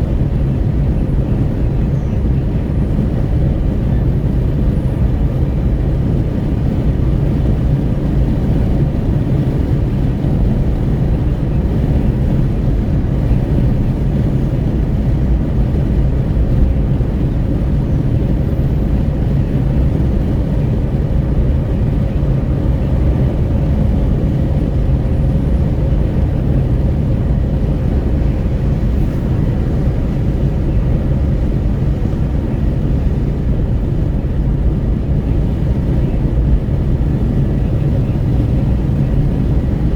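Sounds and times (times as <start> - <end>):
tyre and road noise: 0.0 - 39.9
wind rushing through open window: 0.0 - 39.9.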